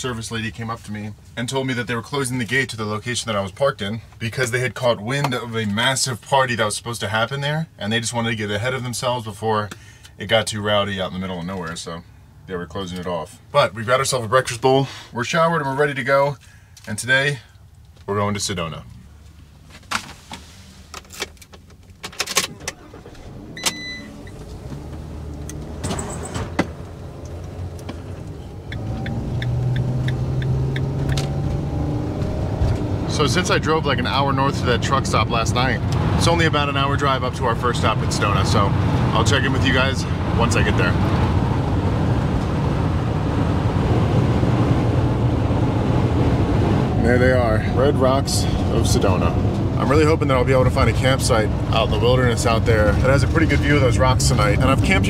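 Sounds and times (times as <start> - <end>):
van engine and road noise: 0.0 - 55.0.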